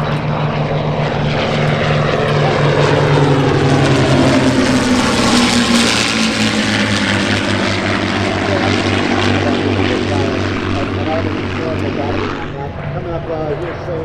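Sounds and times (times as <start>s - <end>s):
propeller planes passing: 0.0s - 14.0s.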